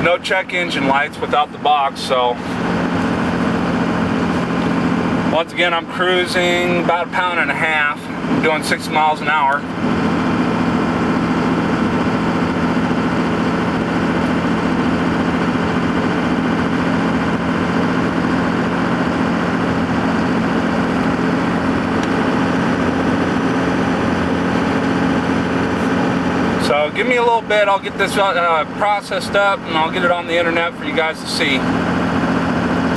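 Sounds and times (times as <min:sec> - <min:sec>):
diesel engine drone: 0:00.0 - 0:32.9
road noise: 0:00.0 - 0:32.9.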